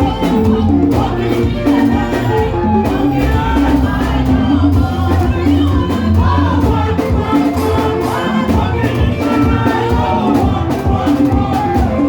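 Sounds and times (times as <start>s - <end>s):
gospel band playing: 0.0s - 12.0s
singing: 0.0s - 12.0s.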